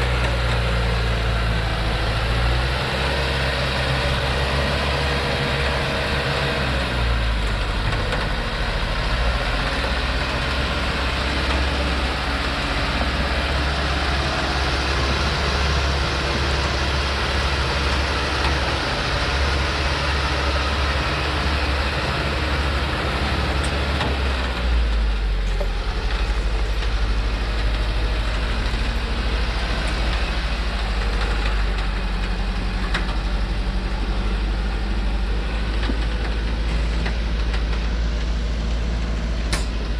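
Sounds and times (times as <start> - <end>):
diesel truck engine rumbling: 0.0 - 39.9.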